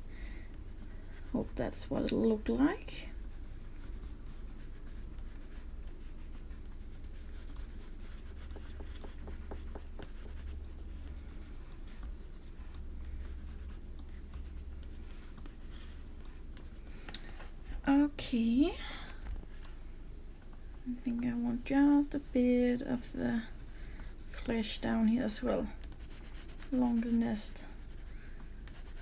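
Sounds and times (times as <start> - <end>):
steady low hum: 0.0 - 29.0
colouring strokes on paper: 0.6 - 18.4, 21.0 - 29.0.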